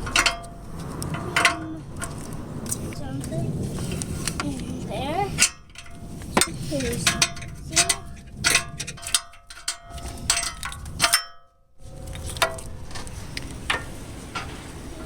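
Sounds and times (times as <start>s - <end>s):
metal objects clanking: 0.0s - 15.0s.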